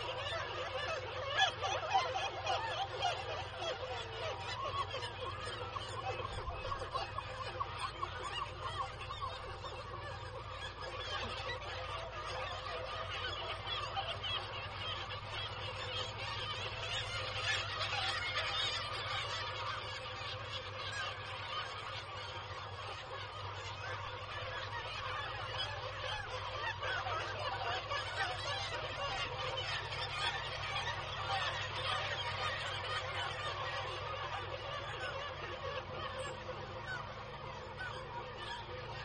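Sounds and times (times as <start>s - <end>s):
seabird colony calling: 0.0s - 39.0s.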